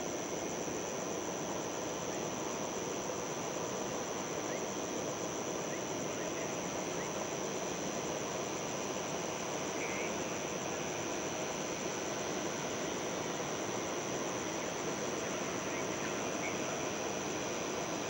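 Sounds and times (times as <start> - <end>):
insects chirring: 0.0 - 18.0
distant jet engines running: 0.1 - 18.0.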